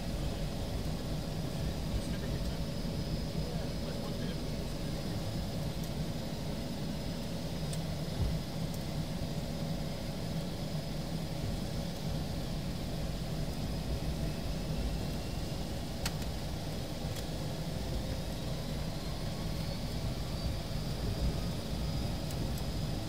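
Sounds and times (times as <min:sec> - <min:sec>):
aircraft engines rumbling: 0:00.0 - 0:23.0
high engine whine: 0:00.0 - 0:23.0.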